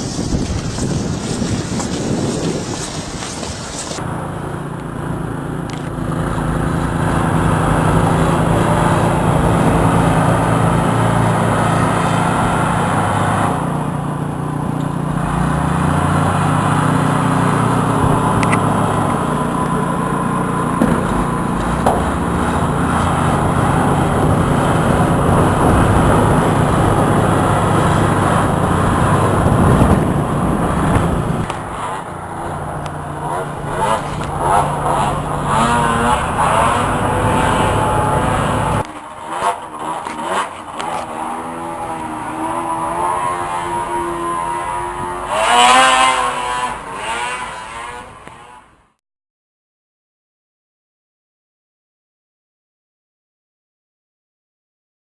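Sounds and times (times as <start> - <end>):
engine running: 0.0 - 48.1.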